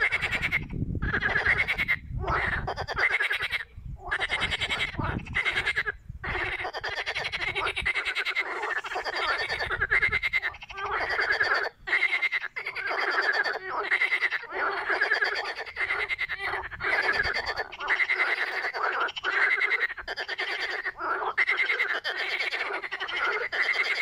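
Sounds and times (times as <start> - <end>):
frogs croaking: 0.0 - 24.0.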